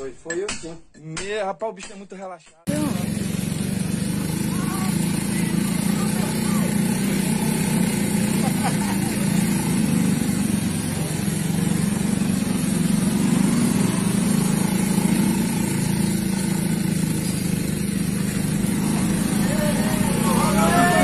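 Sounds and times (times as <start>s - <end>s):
engine idling: 2.7s - 21.0s.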